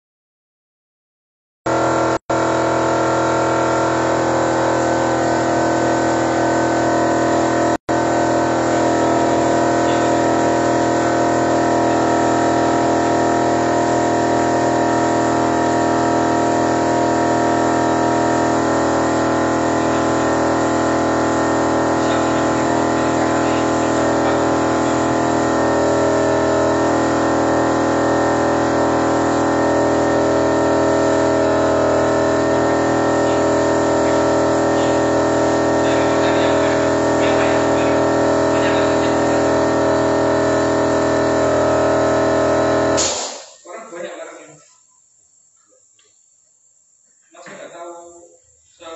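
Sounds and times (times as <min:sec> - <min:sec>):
car engine running: 0:01.7 - 0:43.0
compressed-air spray gun hissing: 0:02.6 - 0:43.7.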